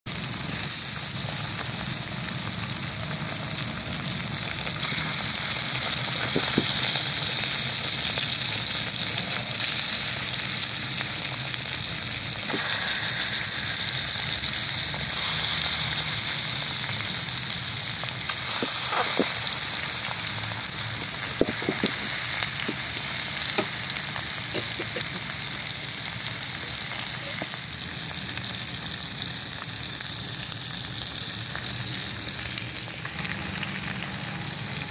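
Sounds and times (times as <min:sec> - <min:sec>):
fish frying in oil: 0:00.1 - 0:34.9.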